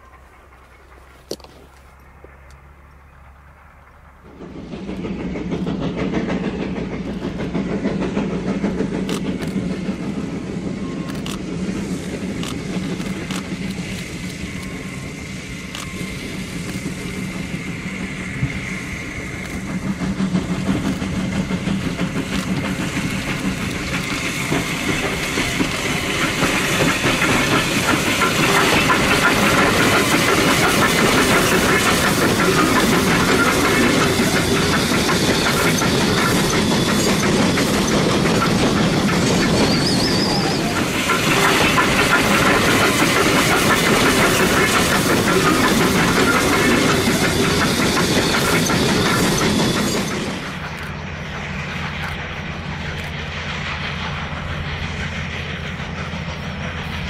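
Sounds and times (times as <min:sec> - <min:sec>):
steam locomotive passing: 0:00.0 - 0:57.0
train wheels on rails: 0:00.0 - 0:57.0.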